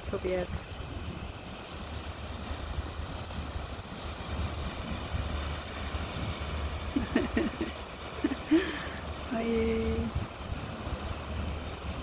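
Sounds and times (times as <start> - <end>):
surf washing against rocks: 0.0 - 12.0
wind rumbling on microphone: 0.0 - 12.0.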